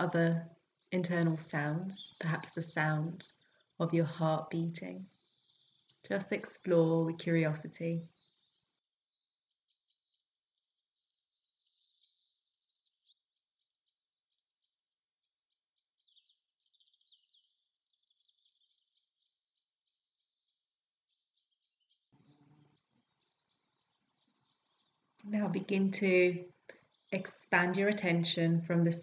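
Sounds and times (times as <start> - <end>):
birdsong: 0.0 - 29.0.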